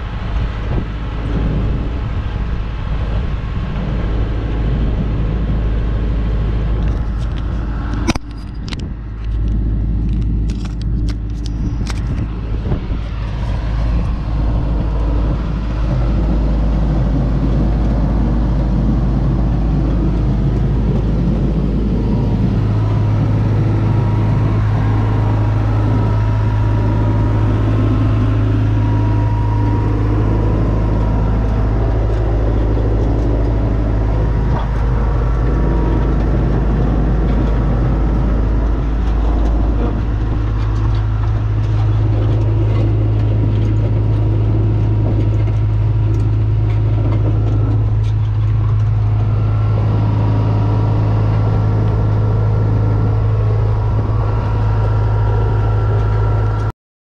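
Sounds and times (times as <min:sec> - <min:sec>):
diesel engine running: 0:00.0 - 0:56.7.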